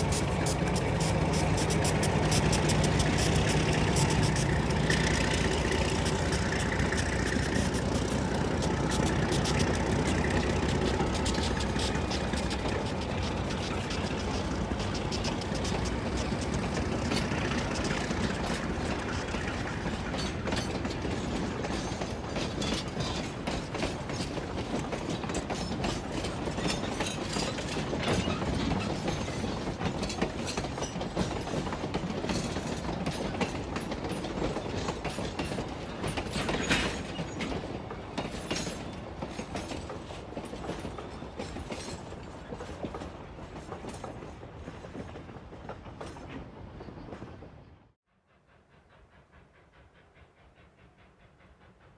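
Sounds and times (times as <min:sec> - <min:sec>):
train wheels clacking over rails: 0:00.0 - 0:51.9.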